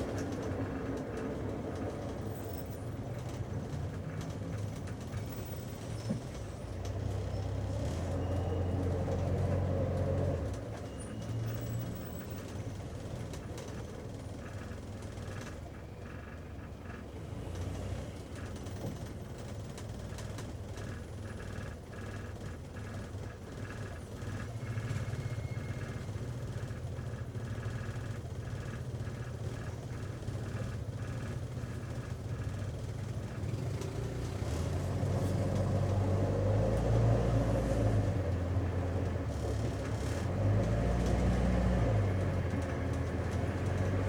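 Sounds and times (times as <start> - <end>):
car engine hum: 0.0 - 44.0
road noise: 0.0 - 44.0.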